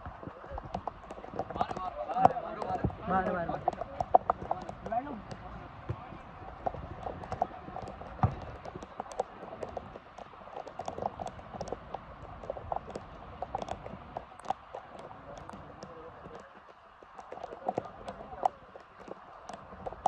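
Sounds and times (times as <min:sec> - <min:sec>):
running footsteps and ball kicks: 0:00.0 - 0:20.0.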